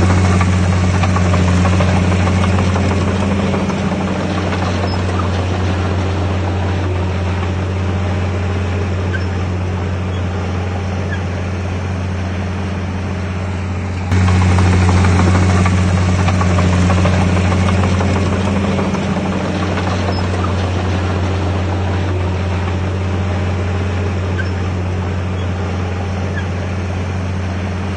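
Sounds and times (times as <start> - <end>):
heavy diesel machinery running: 0.0 - 27.9.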